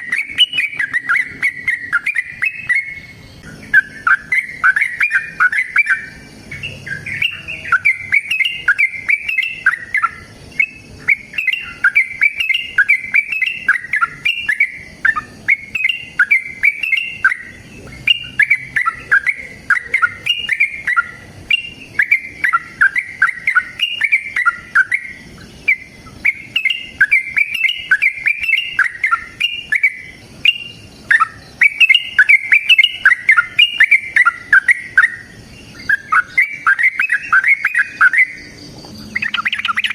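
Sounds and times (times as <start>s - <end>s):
bulbul singing rapid chattering: 0.0s - 39.9s.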